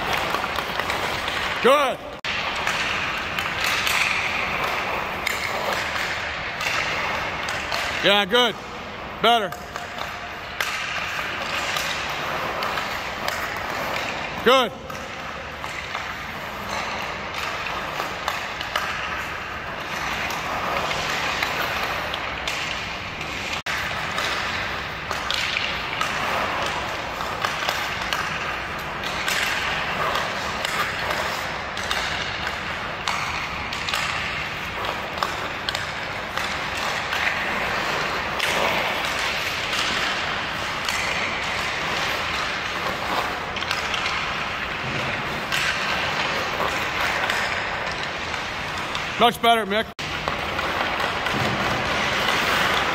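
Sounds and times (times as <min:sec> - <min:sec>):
hockey stick hitting puck: 0:00.0 - 0:52.9
skate blades scraping ice: 0:00.0 - 0:52.9.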